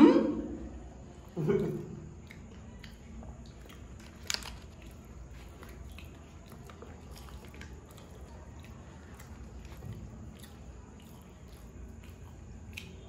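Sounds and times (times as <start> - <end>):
crisp shells cracking and chewing: 2.2 - 13.0.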